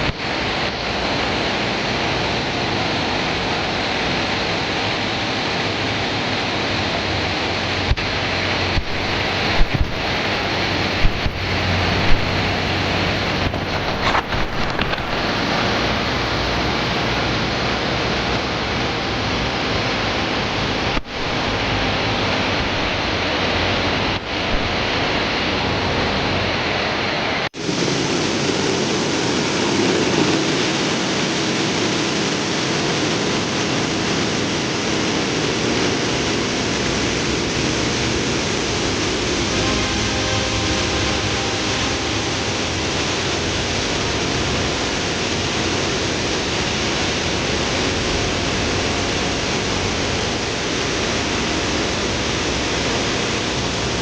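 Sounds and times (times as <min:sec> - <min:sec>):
waterfall rushing: 0:02.6 - 0:54.0.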